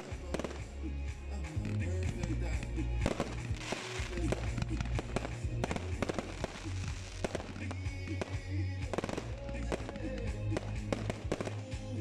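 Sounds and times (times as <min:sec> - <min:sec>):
firework bangs and crackling: 0:00.0 - 0:12.0
music: 0:00.0 - 0:12.0.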